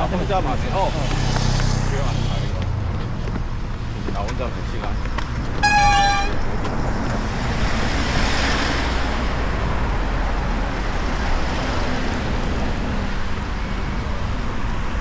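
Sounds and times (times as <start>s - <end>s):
vehicle passing: 0.0s - 4.0s, 5.2s - 14.3s
road traffic noise: 0.0s - 15.0s.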